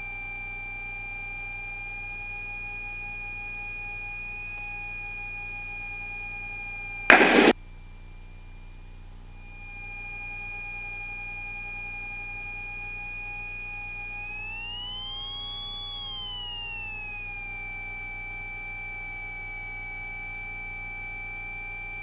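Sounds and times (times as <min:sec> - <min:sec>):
high-pitched electrical whine: 0:01.8 - 0:22.0.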